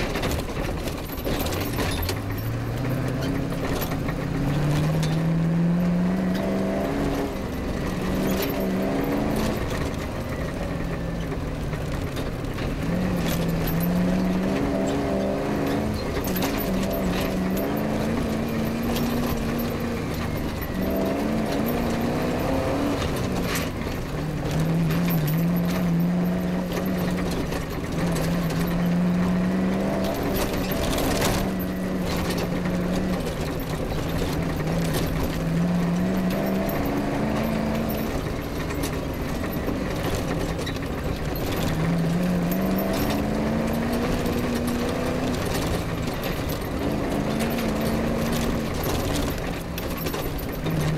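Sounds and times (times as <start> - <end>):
car knocks and rattles: 0.0 - 50.9
rally car engine revving: 0.0 - 50.9.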